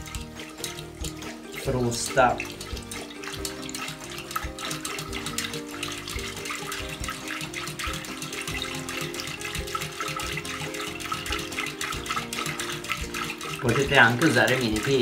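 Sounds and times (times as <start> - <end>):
background music with held notes: 0.0 - 15.0
whisk sloshing liquid in pot: 0.0 - 15.0
whisk wires clicking on pot: 0.0 - 15.0.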